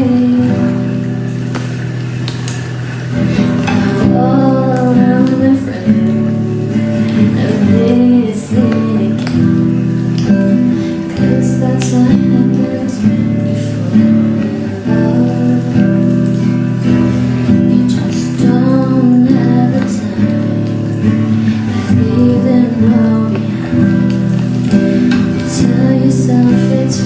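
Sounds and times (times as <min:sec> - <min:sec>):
person singing: 0:00.0 - 0:01.3, 0:03.2 - 0:27.0
strummed acoustic guitar: 0:00.0 - 0:27.0.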